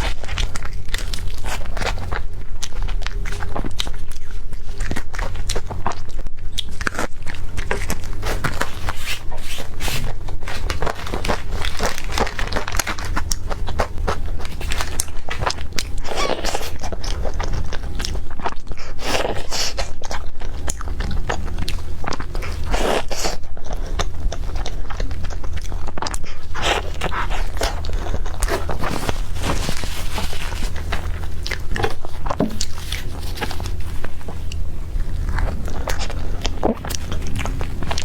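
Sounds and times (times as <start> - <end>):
crunchy chewing: 0.0 - 38.0.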